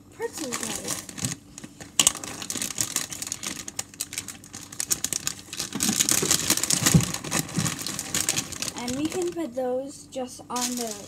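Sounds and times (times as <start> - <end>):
plastic bag crinkling: 0.2 - 9.5, 10.5 - 11.0.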